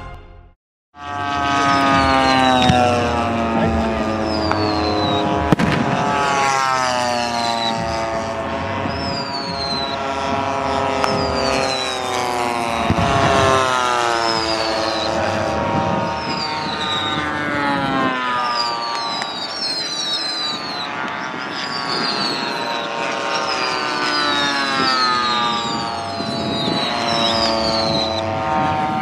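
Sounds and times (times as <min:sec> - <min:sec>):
high falling whistle: 0:01.0 - 0:28.9
model plane engines flying past: 0:01.0 - 0:29.0
sharp bangs: 0:01.2 - 0:29.0.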